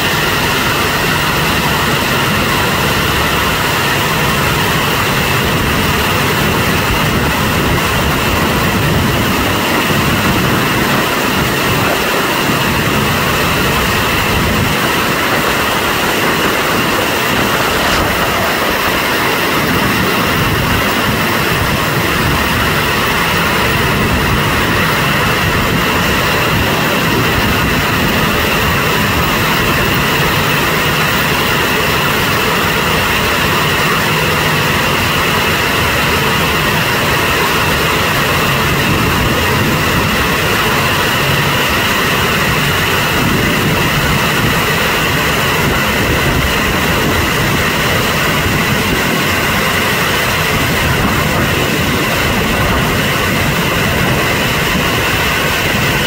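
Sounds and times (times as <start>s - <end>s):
conveyor mechanical roar: 0.0s - 56.0s
rice pouring down chute: 0.0s - 56.0s.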